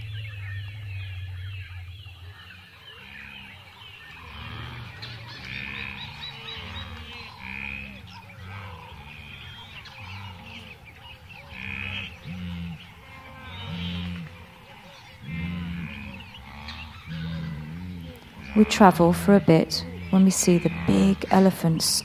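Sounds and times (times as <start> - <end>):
low croaking calls: 0.0 - 22.0.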